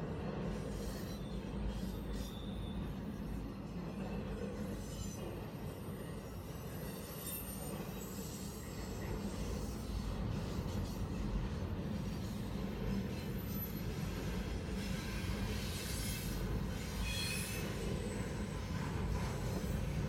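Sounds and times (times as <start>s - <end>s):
freight train wheels rumbling: 0.0s - 20.0s
faint high wheel squeals: 0.4s - 11.2s, 12.0s - 20.0s.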